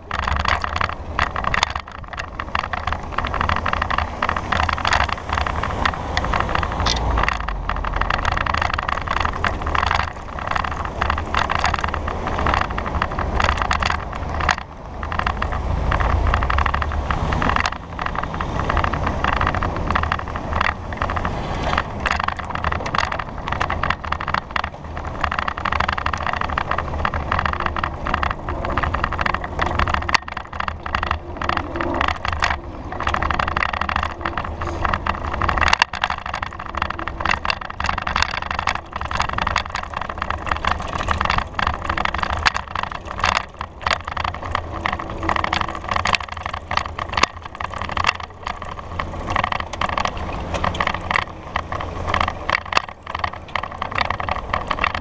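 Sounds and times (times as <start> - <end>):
bicycle rumble on asphalt: 0.0 - 55.0
bike rattling knocks: 0.0 - 55.0
street traffic: 0.0 - 55.0.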